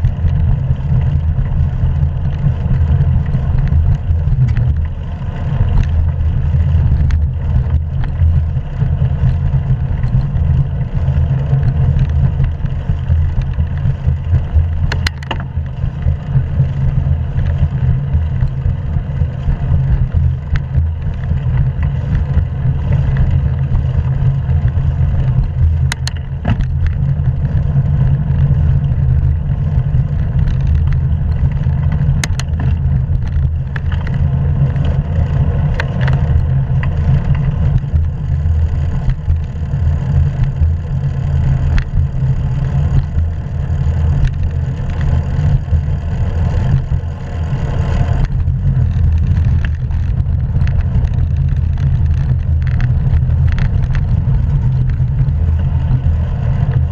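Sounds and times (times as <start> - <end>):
bicycle road noise: 0.0 - 56.9
wind rumble: 0.0 - 56.9.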